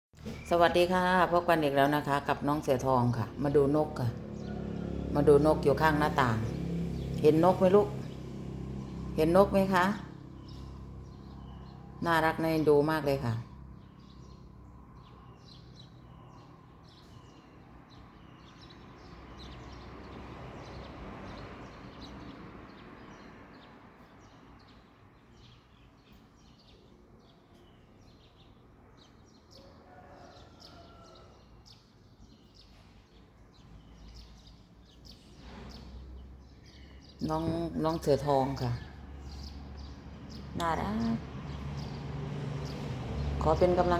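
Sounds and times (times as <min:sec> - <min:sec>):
small birds chirping: 0:00.2 - 0:43.9.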